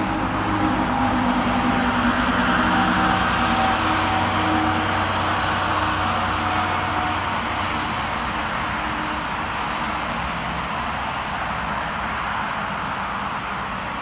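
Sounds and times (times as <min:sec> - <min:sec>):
jet engine roar: 0:00.0 - 0:11.8.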